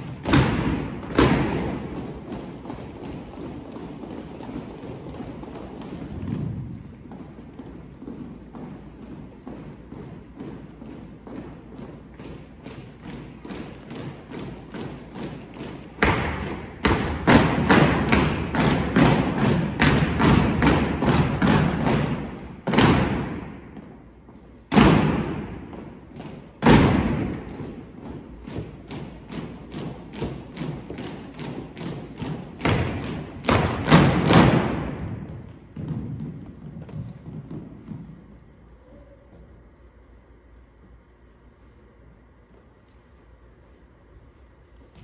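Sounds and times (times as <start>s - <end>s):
rhythmic stomps and body slaps: 0.0s - 38.6s
heavy echoing hits: 0.0s - 39.2s.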